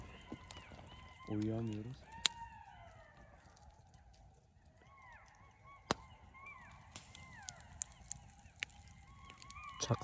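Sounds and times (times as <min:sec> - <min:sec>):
jackals yelping: 0:00.0 - 0:10.0.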